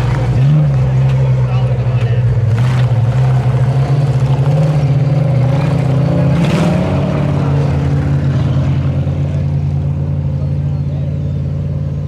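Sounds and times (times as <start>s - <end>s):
truck engine running loud: 0.0s - 12.0s.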